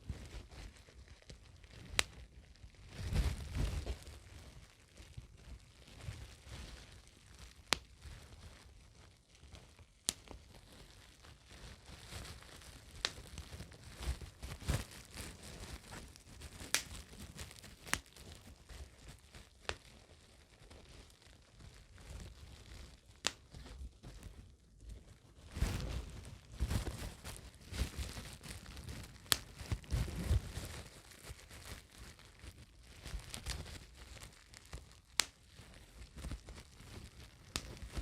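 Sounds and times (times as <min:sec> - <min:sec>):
bubble wrap crinkling: 0:00.0 - 0:38.0
bubble wrap pops: 0:00.0 - 0:38.0.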